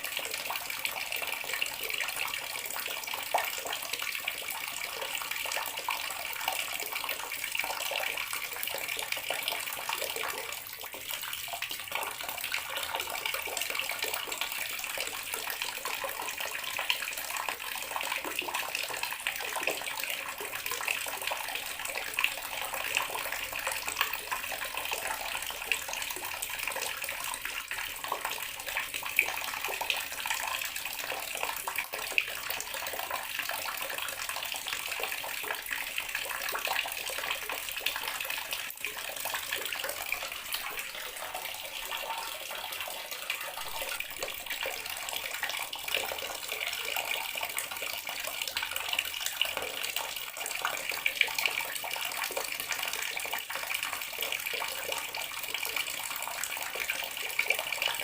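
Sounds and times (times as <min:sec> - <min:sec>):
water tap running into basin: 0:00.0 - 0:58.0.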